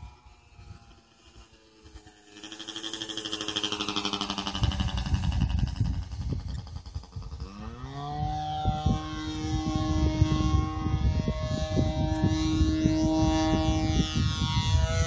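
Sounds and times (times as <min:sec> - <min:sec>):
wind rumble on microphone: 0:00.0 - 0:02.1, 0:02.8 - 0:15.0
model plane engine whining: 0:00.0 - 0:15.0.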